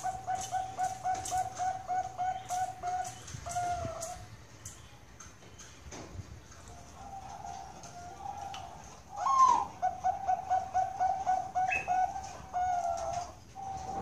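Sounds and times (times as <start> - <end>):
dove cooing: 0.0 - 4.2, 6.7 - 14.0.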